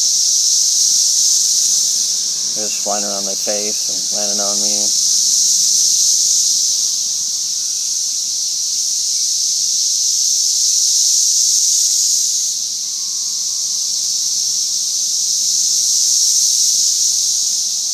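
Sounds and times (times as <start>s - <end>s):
cicadas buzzing: 0.0s - 17.9s.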